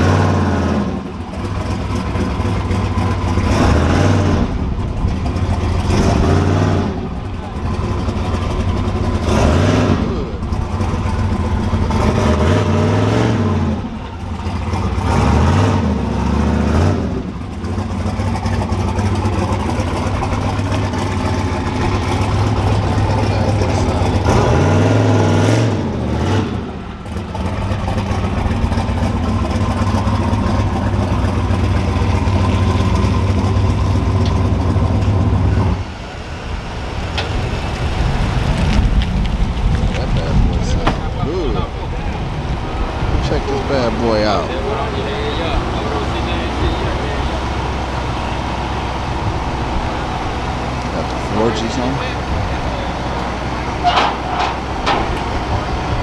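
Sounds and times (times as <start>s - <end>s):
vehicle engine idling and revving: 0.0s - 56.0s.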